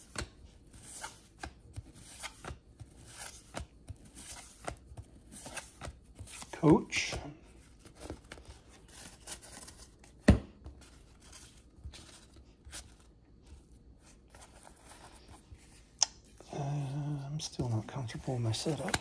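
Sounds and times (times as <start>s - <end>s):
cards rustling and sliding: 0.0s - 19.0s.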